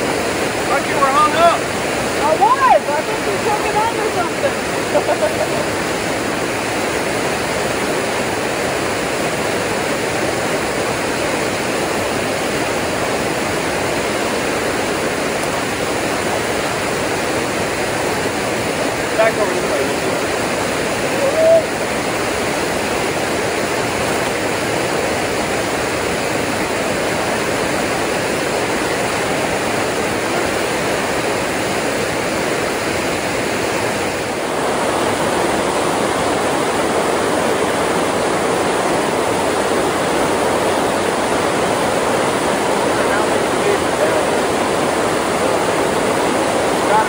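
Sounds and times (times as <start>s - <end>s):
water rushing over waterfall: 0.0s - 47.0s.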